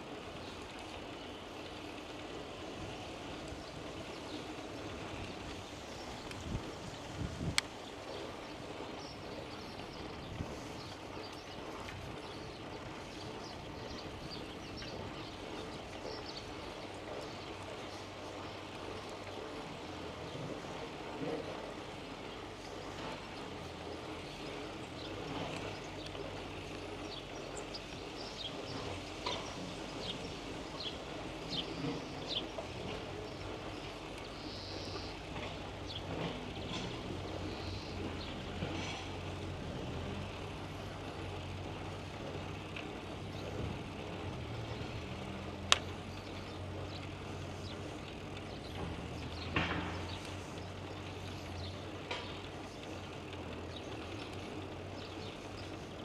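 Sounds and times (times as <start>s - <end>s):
motor vehicle hum: 0.0s - 56.0s.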